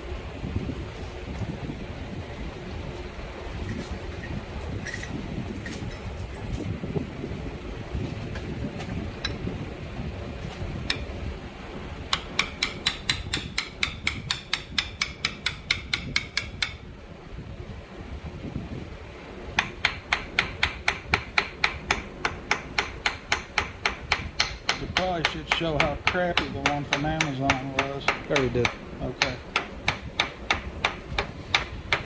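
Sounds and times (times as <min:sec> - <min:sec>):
steady fan noise: 0:00.0 - 0:32.0.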